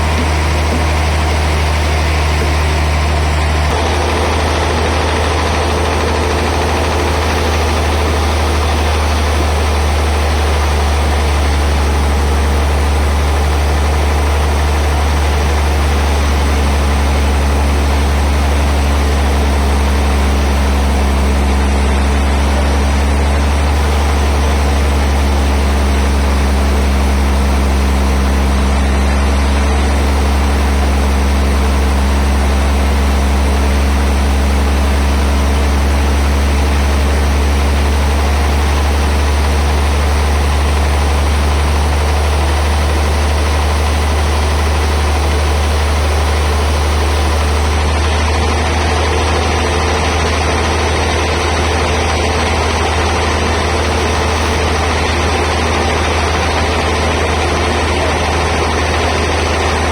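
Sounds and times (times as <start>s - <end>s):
band saw running: 0.0s - 59.9s
higher hum: 0.0s - 59.9s.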